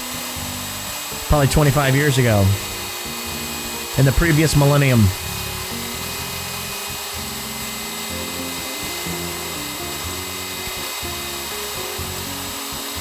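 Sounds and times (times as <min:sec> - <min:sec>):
router whining cutting wood: 0:00.0 - 0:13.0
background music low melody: 0:00.1 - 0:13.0.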